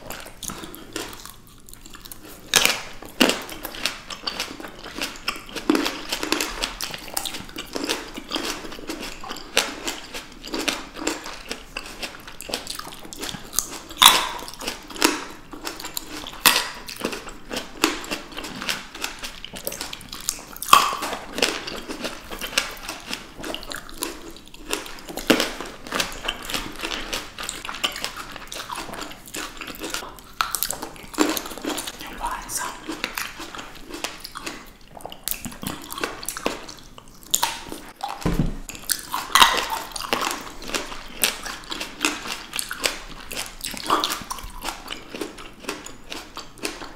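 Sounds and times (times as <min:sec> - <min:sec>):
chewing grapes: 0:00.0 - 0:46.9.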